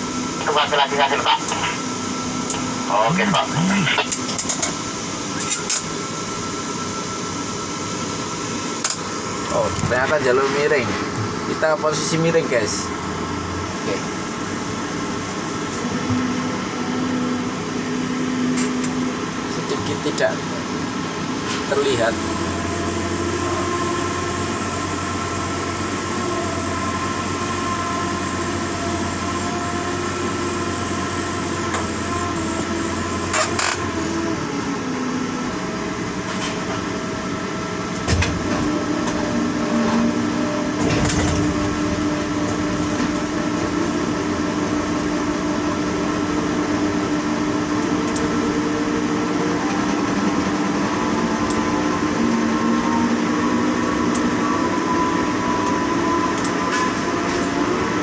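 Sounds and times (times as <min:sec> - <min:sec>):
crane machine hum: 0:00.0 - 0:58.0.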